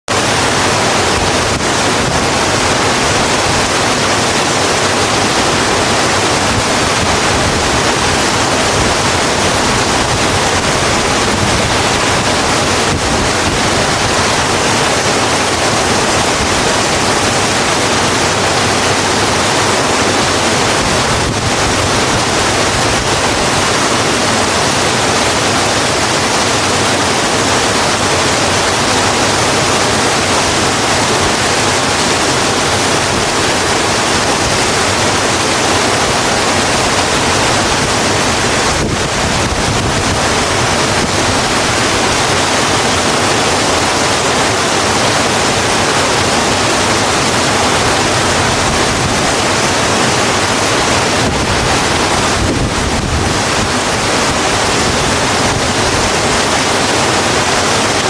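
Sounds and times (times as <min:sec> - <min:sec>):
heavy rain on a road: 0:00.1 - 0:58.0.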